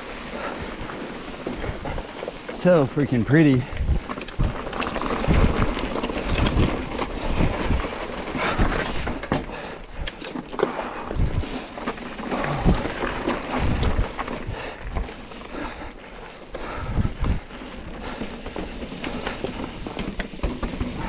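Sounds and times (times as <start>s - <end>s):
bike knocking and rattling: 0.0s - 21.0s
bike tyres on rocky trail: 0.0s - 21.0s.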